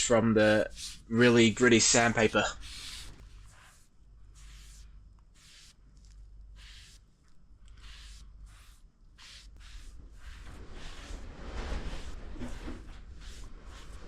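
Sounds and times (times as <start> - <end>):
hand rubbing wooden surface: 0.0 - 7.1, 7.7 - 14.0.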